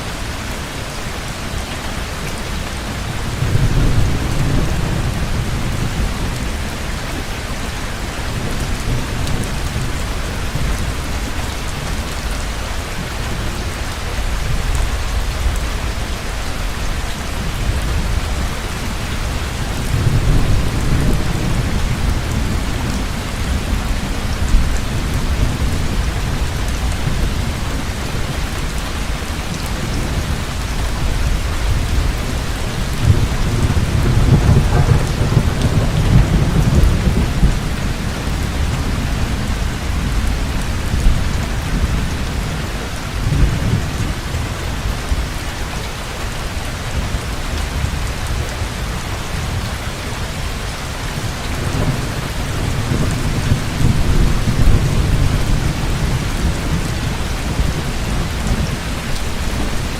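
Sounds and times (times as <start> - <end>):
heavy rain falling: 0.0 - 59.9
low rolling thunder: 2.6 - 45.4, 46.6 - 59.9.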